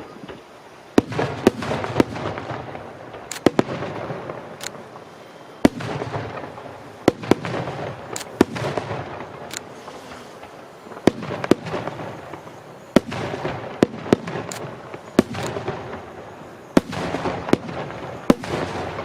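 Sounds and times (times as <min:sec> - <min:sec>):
firework crackling: 0:00.0 - 0:19.0
firework shells bursting: 0:00.2 - 0:19.0.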